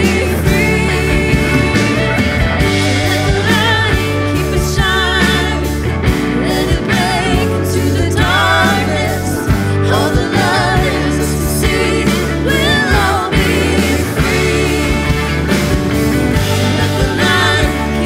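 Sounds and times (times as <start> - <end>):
person singing: 0.0 - 15.6
worship song by a band: 0.0 - 18.0.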